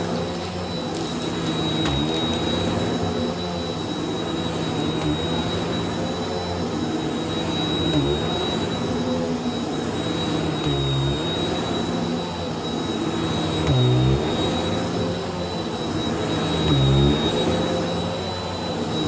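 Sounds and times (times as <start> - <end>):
vacuum cleaner motor whining: 0.0 - 19.0.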